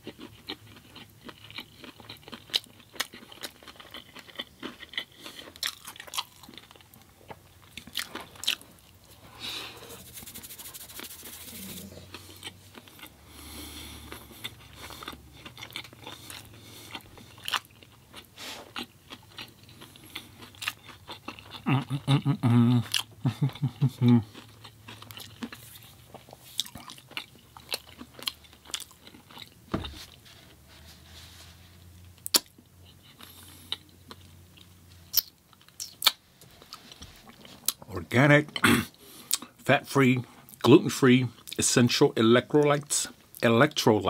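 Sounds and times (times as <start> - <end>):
person chewing food: 0.0 - 31.2, 31.9 - 39.6.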